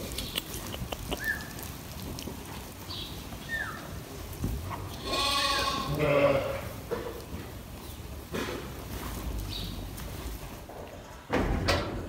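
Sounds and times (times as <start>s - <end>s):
sheep rustling on straw: 0.0s - 11.2s.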